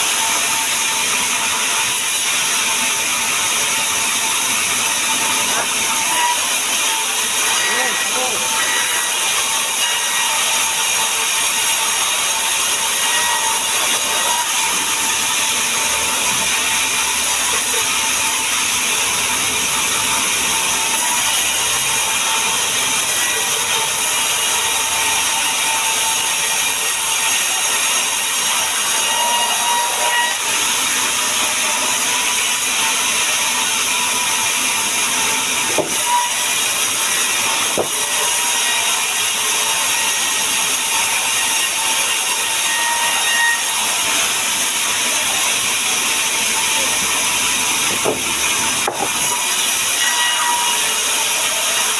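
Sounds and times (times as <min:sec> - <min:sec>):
woodworking machine cutting wood: 0:00.0 - 0:51.9.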